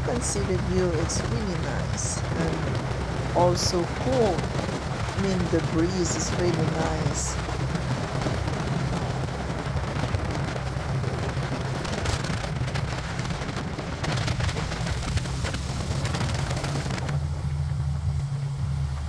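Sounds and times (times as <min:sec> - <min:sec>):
motorcycle engine drone: 0:00.0 - 0:19.0
wind buffeting microphone: 0:00.0 - 0:19.0.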